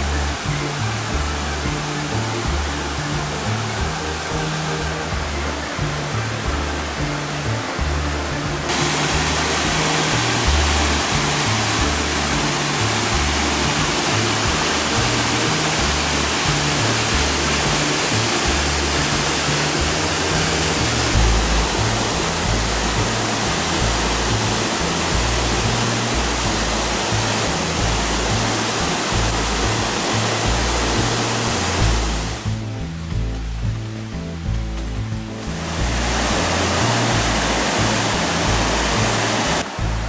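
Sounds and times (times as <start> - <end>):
background music with bass line: 0.0 - 40.0
stream rushing over rocks: 0.0 - 40.0.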